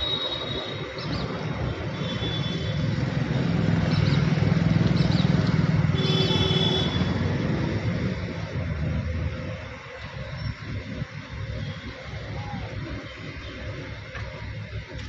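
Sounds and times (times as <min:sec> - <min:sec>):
passing traffic engine rumble: 0:00.0 - 0:15.0.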